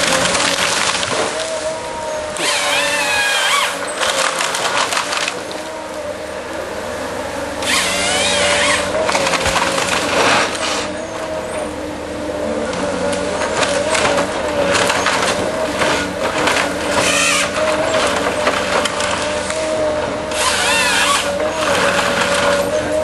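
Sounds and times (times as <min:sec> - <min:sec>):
wood crackling and splintering: 0:00.0 - 0:06.7, 0:07.6 - 0:11.4, 0:12.3 - 0:23.0
harvester engine running: 0:00.0 - 0:23.0
saw whine cutting log: 0:00.0 - 0:23.0.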